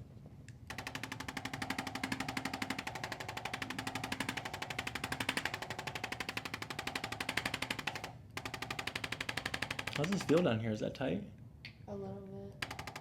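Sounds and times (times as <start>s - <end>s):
motor hum: 0.0s - 11.2s.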